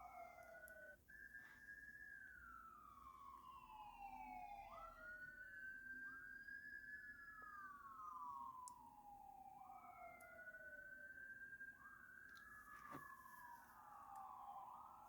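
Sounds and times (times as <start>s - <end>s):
faint wailing sirens: 0.0s - 15.0s.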